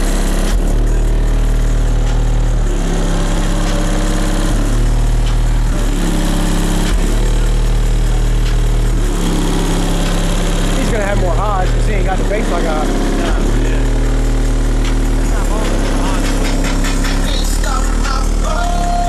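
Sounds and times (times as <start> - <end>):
bass-heavy music from subwoofers: 0.0 - 19.0.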